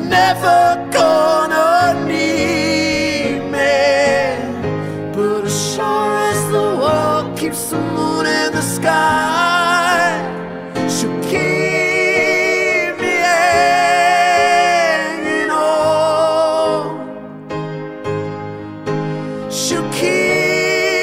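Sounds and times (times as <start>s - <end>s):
person singing with vibrato: 0.0s - 17.2s, 19.2s - 21.0s
sustained backing instruments: 0.0s - 21.0s.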